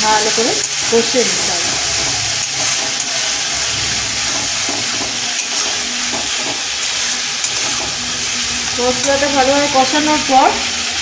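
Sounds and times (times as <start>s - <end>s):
spice paste sizzling in oil: 0.0s - 11.0s.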